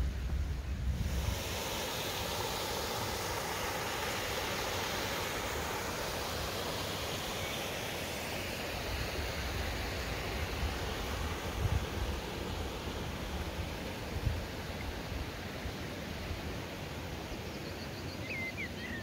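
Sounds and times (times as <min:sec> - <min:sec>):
creek water rushing over rocks: 0:00.9 - 0:17.6.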